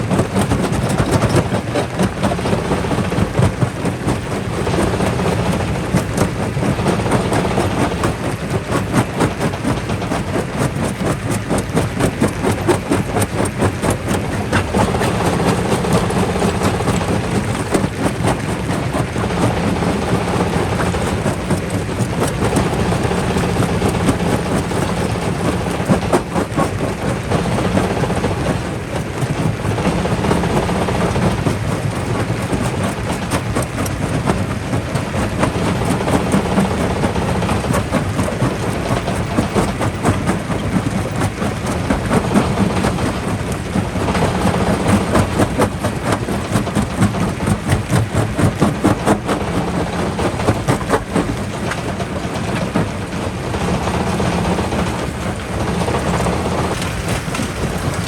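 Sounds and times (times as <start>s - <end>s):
rock cracking in crusher: 0.0s - 58.0s.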